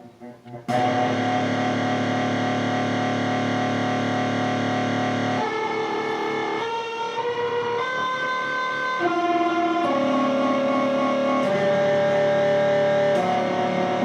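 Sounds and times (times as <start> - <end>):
distorted electric guitar chord warbling: 0.0 - 14.0.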